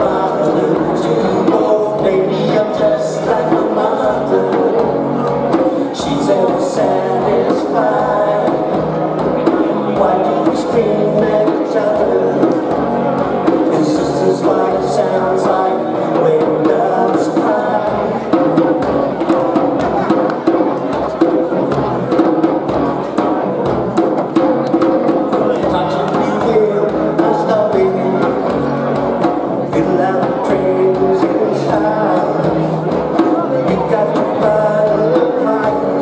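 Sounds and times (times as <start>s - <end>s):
person singing: 0.0s - 20.2s, 25.3s - 36.0s
live band playing: 0.0s - 36.0s.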